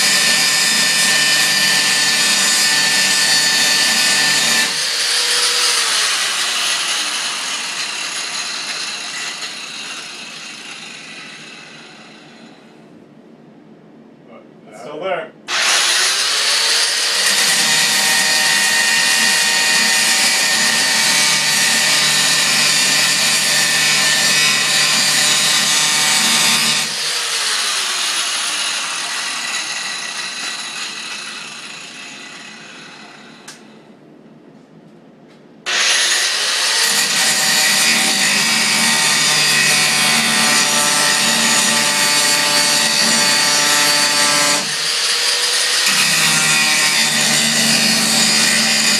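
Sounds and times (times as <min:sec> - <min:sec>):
angle grinder cutting steel: 0:00.0 - 0:12.5, 0:15.5 - 0:33.7, 0:35.7 - 0:48.9.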